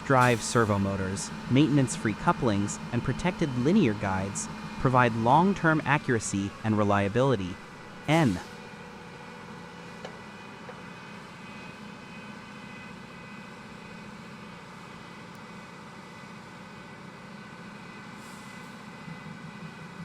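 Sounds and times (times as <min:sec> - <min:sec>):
machine hum with held tones: 0:00.0 - 0:16.8.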